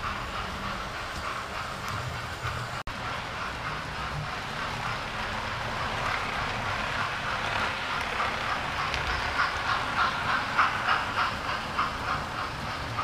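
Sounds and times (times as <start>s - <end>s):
model train wheels clicking over rail joints: 0.0s - 13.0s.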